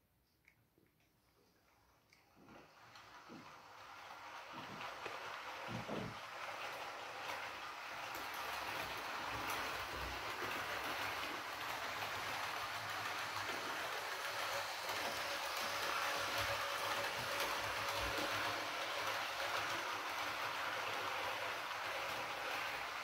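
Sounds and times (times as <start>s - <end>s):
faint motor hum: 1.7s - 23.0s
model train wheels rolling on rail: 2.3s - 23.0s.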